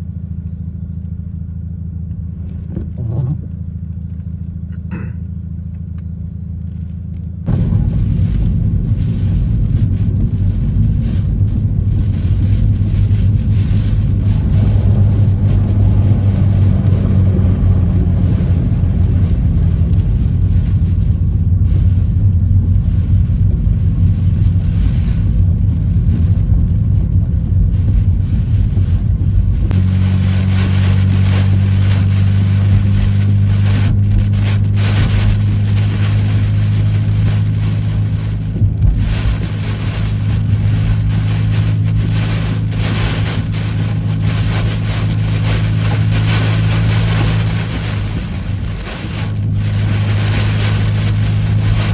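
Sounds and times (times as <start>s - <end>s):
car engine and road drone: 0.0s - 51.9s
wind noise hiss: 7.5s - 51.9s.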